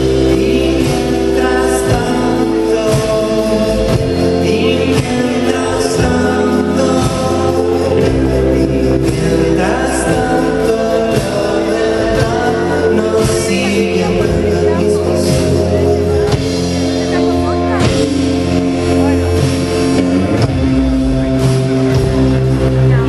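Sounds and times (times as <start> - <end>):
person singing: 0.0 - 23.0
rock band playing live: 0.0 - 23.0.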